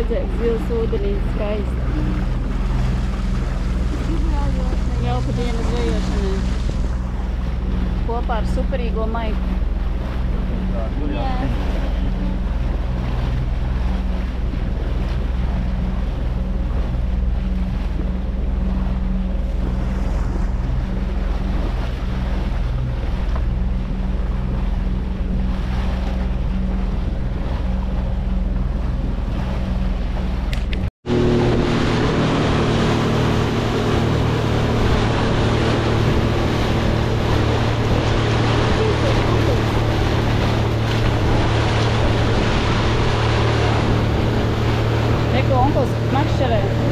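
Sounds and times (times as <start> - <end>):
boat engine running: 0.0 - 46.9
rushing water: 0.0 - 46.9
wind on microphone: 0.0 - 46.9.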